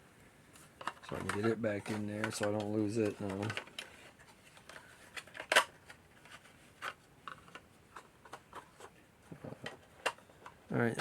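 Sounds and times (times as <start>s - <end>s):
plastic parts clicking and rustling: 0.5s - 11.0s.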